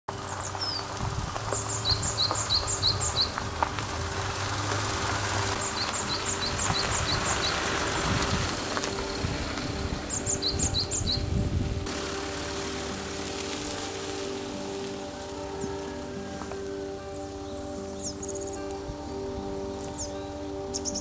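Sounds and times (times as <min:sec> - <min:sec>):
engine low rumble: 0:00.1 - 0:21.0
songbird chirping: 0:00.1 - 0:21.0.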